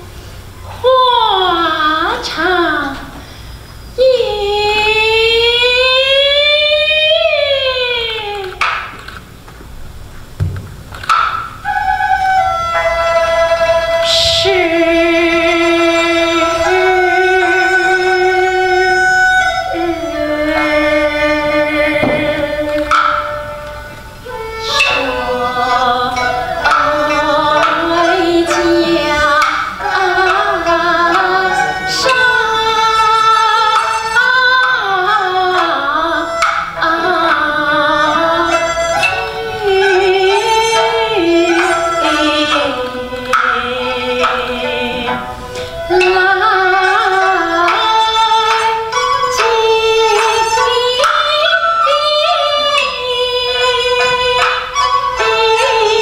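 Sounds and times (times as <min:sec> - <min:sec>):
instrumental accompaniment: 0:00.0 - 0:56.0
woman singing ornamented melody: 0:04.0 - 0:09.1, 0:13.2 - 0:56.0
sharp percussion strokes: 0:08.5 - 0:56.0.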